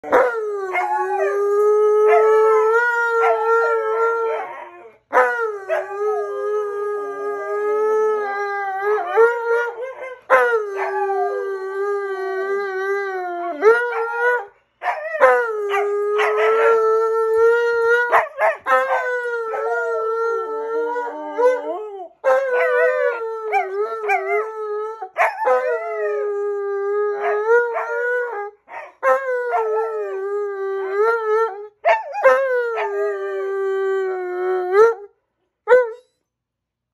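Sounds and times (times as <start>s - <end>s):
dogs howling: 0.0s - 35.0s.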